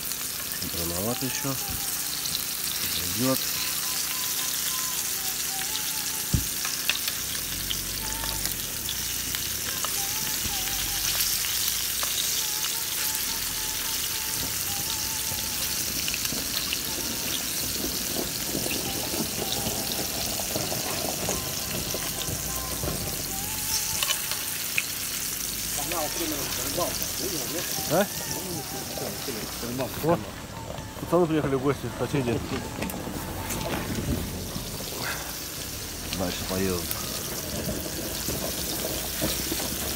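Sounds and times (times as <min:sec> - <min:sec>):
fish sizzling in hot oil: 0:00.0 - 0:30.2, 0:31.3 - 0:39.9.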